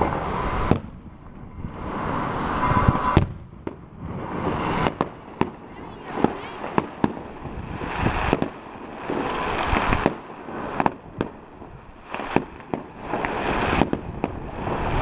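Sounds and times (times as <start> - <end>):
fireworks banging: 0.0 - 15.0
fireworks crackling: 0.0 - 15.0.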